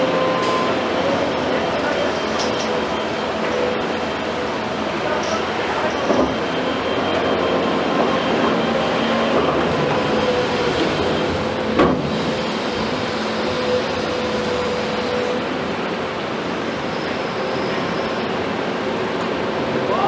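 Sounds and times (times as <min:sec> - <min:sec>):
steady hydraulic whine: 0:00.0 - 0:19.7.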